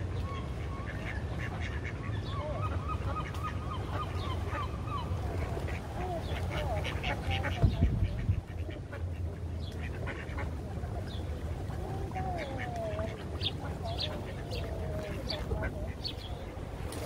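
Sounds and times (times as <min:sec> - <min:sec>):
ducks quacking: 0:00.4 - 0:17.0.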